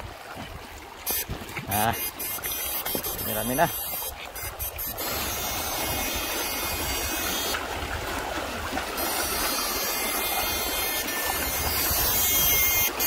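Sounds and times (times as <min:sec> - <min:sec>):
river water rushing over stones: 0:00.0 - 0:13.0.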